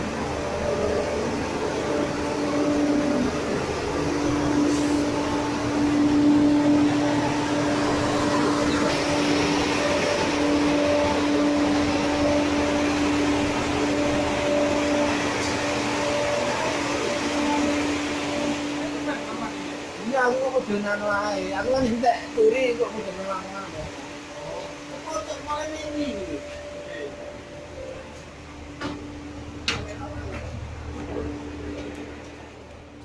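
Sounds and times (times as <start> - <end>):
air-conditioning hum: 0.0 - 33.0
diesel railcar engine idling: 0.0 - 33.0.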